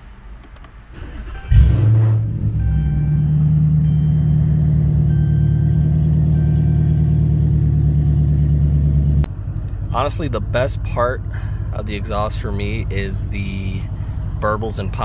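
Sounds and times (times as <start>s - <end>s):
car engine droning loudly: 1.4s - 15.0s.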